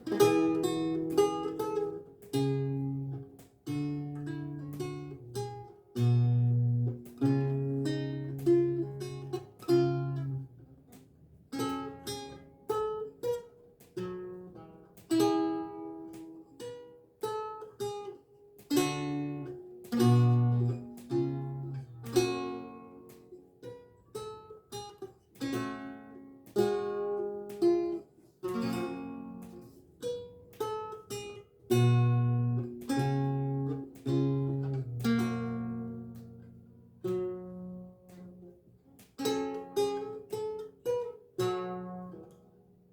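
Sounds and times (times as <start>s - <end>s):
solo lute playing: 0.0s - 42.9s.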